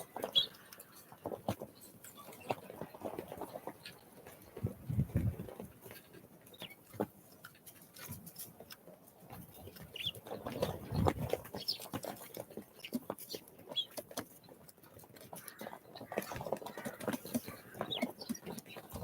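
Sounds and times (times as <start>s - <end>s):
birds pecking and landing: 0.0s - 19.0s.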